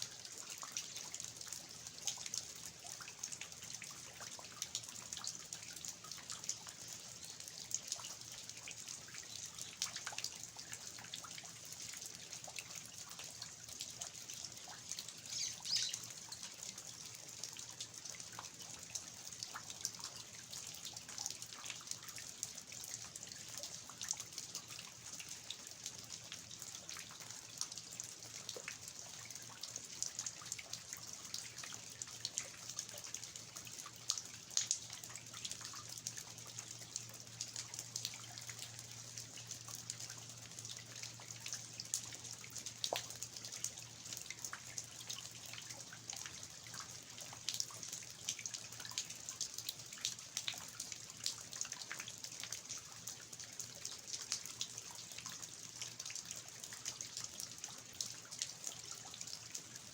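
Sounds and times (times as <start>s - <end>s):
steady rain falling: 0.0s - 59.9s
water dripping from eaves: 0.0s - 59.9s.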